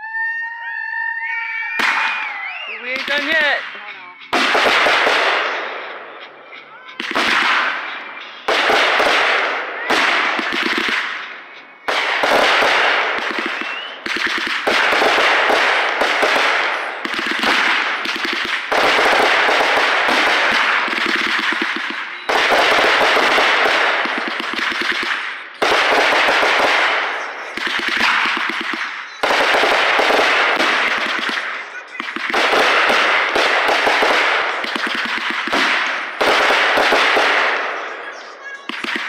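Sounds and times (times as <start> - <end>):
aerial fireworks bang and crackle: 1.8 - 6.2, 6.9 - 39.0.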